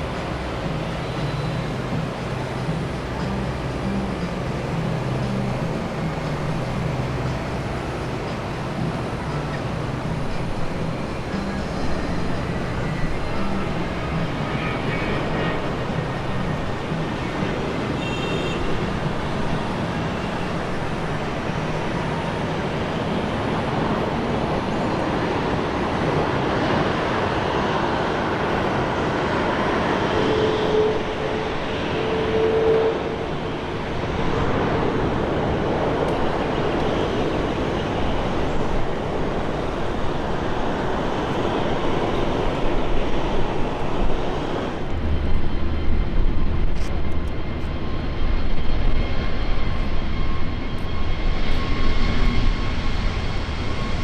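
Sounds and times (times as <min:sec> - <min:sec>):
high whine: 0:00.0 - 0:54.0
jet airliner engines running: 0:00.0 - 0:54.0.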